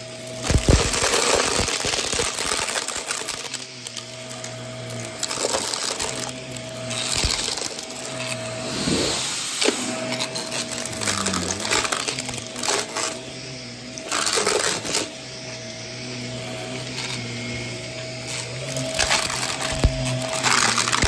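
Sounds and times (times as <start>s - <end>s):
small electric motor humming: 0.0s - 21.0s
scratchy rustling noises: 2.6s - 21.0s.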